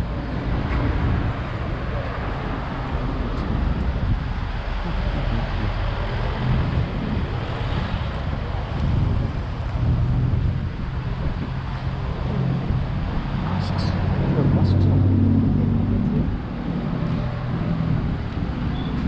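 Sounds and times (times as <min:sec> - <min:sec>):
road traffic: 0:00.0 - 0:19.0
wind noise on microphone: 0:00.0 - 0:19.0.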